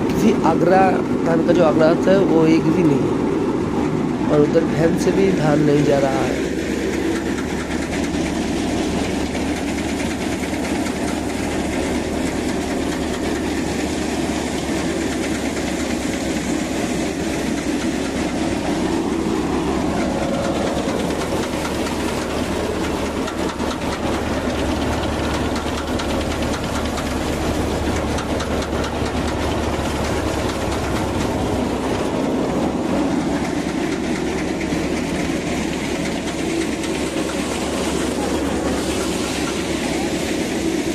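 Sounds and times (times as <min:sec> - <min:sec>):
thresher running under load: 0:00.0 - 0:40.9
tractor engine: 0:00.0 - 0:40.9.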